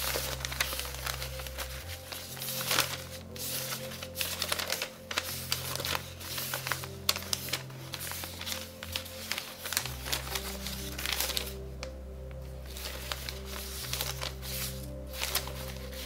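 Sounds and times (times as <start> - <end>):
newspaper rustling and crinkling: 0.0 - 16.0
soft background music: 0.0 - 16.0.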